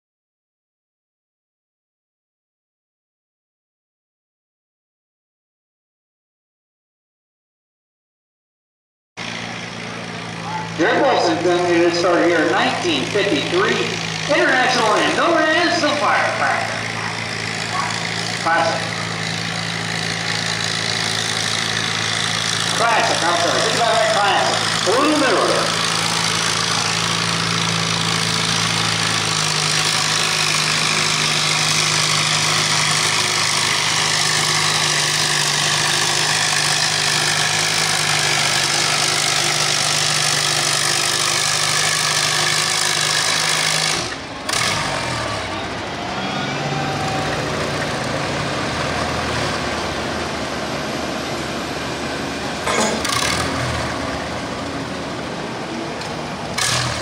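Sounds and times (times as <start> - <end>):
tractor engine running hard: 9.2 - 57.0.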